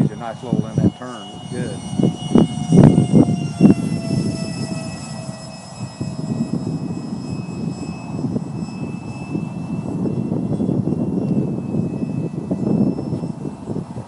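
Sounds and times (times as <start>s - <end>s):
electric ducted fan whistle: 0.0s - 14.0s
wind rumble on microphone: 0.0s - 14.0s.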